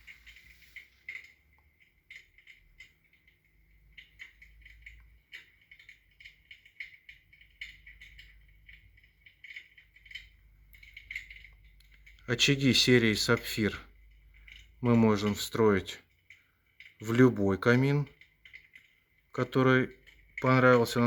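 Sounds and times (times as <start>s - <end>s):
electric fireplace crackling clicks: 0.0s - 21.0s
low steady hum: 0.0s - 21.0s.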